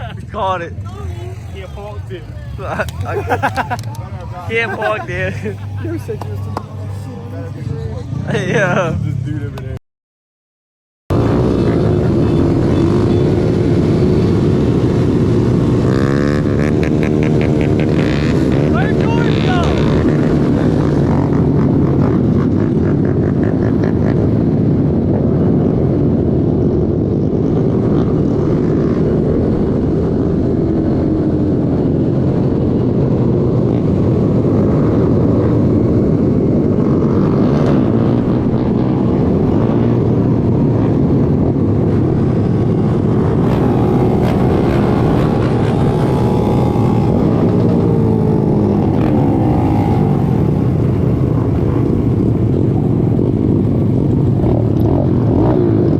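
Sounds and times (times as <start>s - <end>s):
small motorbike engines revving: 0.0s - 9.7s, 11.1s - 55.9s.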